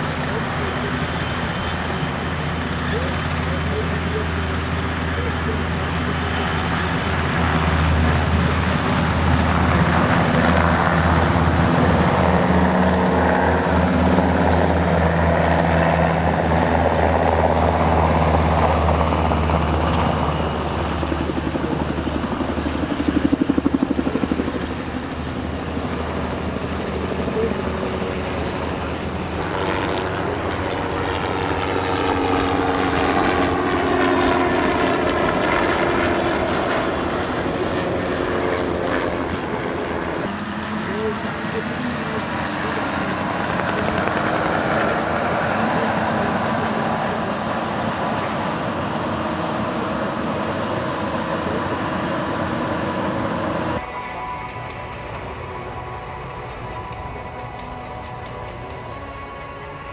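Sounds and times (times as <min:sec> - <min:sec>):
helicopter rotor beat: 0:00.0 - 0:59.9
turbine whine: 0:00.0 - 0:59.9.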